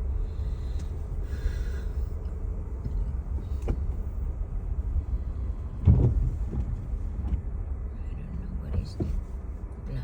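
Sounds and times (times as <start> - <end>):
car driving low rumble: 0.0 - 10.0.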